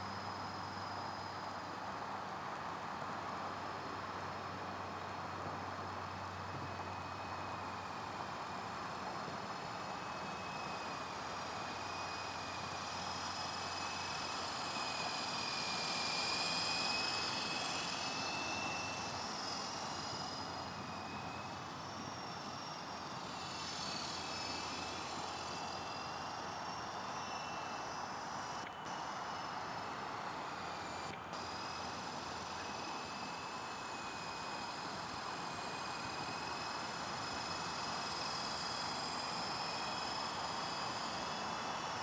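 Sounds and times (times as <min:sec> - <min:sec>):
helicopter turbine and rotor noise: 0:00.0 - 0:42.0.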